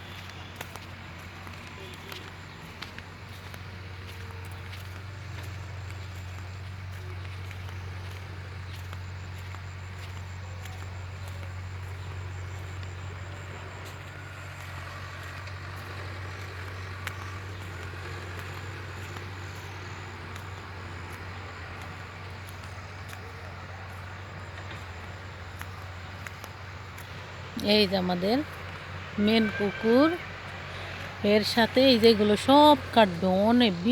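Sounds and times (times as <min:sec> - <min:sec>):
large engine droning: 0:00.0 - 0:33.9.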